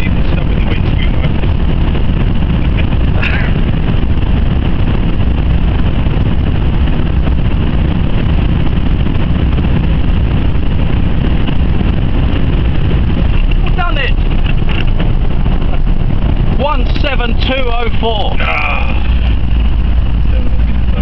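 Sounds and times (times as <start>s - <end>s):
car engine roaring at speed: 0.0s - 21.0s
wind noise in car cabin: 0.0s - 21.0s.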